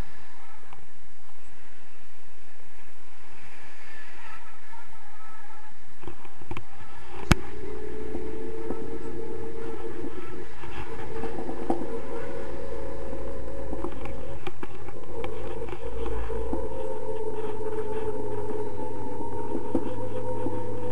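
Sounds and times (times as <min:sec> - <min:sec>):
faint steady hum: 0:00.0 - 0:20.9
wind buffeting microphone: 0:00.0 - 0:20.9.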